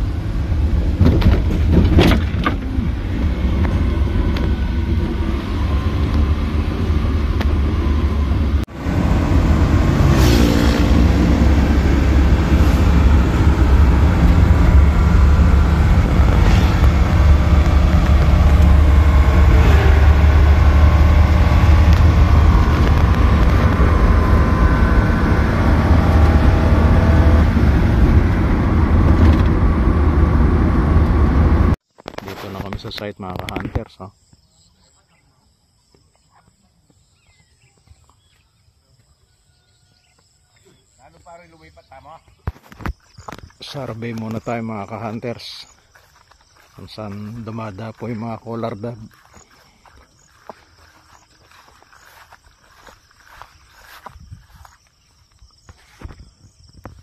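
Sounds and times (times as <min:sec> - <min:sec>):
truck engine and road rumble: 0:00.0 - 0:34.0, 0:40.8 - 0:57.0.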